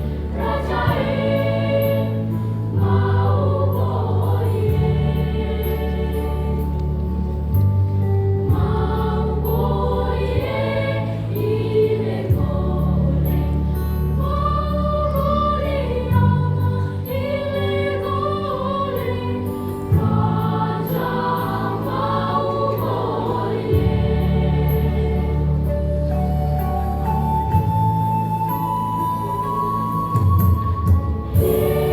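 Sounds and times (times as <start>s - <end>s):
choir singing in parts: 0.0s - 7.6s, 8.4s - 31.9s.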